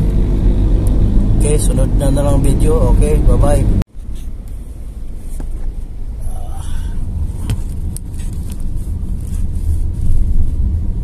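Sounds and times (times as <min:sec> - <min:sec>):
van engine and tyre rumble: 0:00.0 - 0:11.0.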